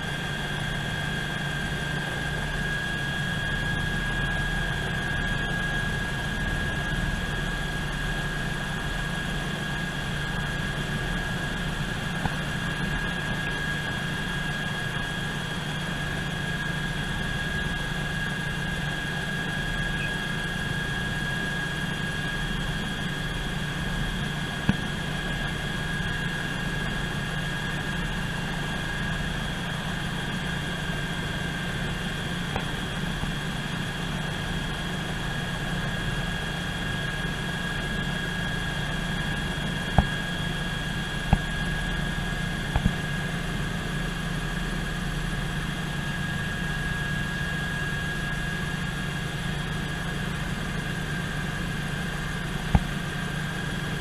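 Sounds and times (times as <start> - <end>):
high turbine whine: 0.0 - 54.0
low rotor drone: 0.0 - 54.0.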